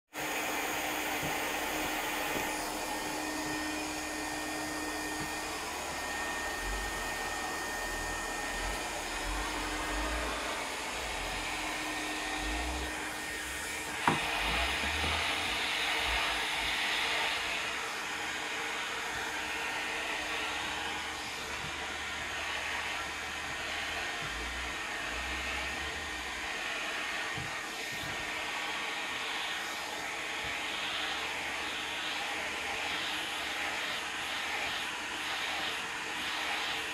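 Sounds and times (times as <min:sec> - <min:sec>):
vacuum cleaner running: 0:00.1 - 0:36.9.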